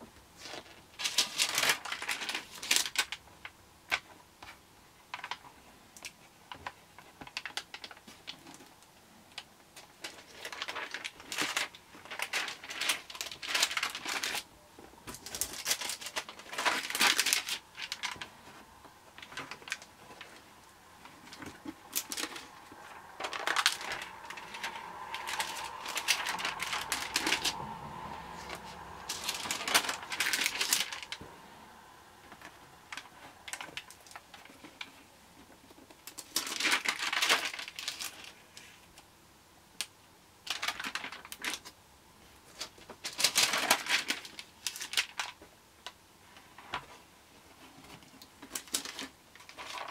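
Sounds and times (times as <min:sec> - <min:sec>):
stiff pages rustling and turning: 0:00.4 - 0:39.1, 0:40.5 - 0:49.9.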